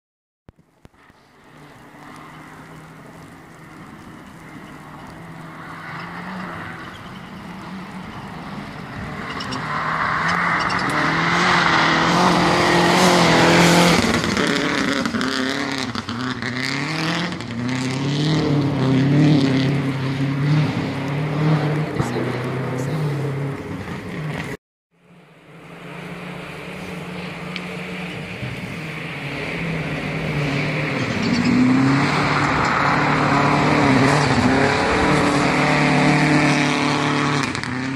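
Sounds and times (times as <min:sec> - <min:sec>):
rally car engine at full throttle: 0:00.6 - 0:37.9.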